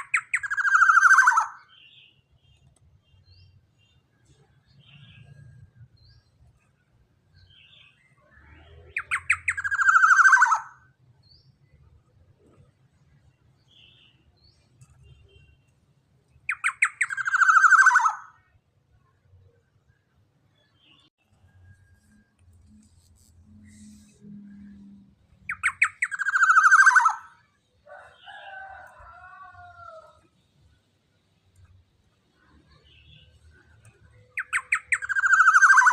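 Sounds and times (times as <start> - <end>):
faint bird chirps: 0.0 - 12.7, 13.6 - 30.3, 31.6 - 35.9.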